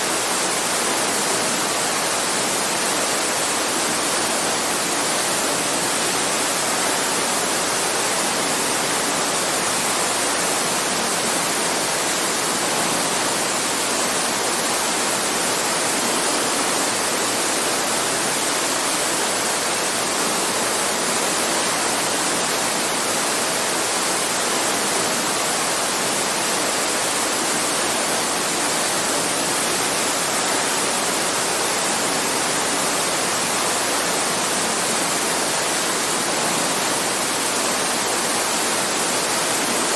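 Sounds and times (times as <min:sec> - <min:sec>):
running water in creek: 0:00.0 - 0:39.9.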